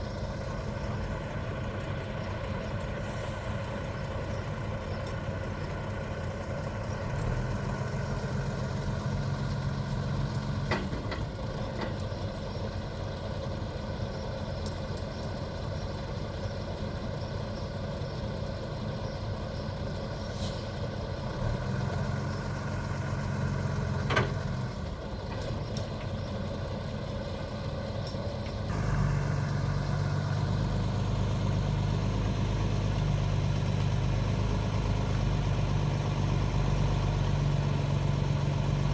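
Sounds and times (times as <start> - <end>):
heavy engine idling: 0.0 - 38.9.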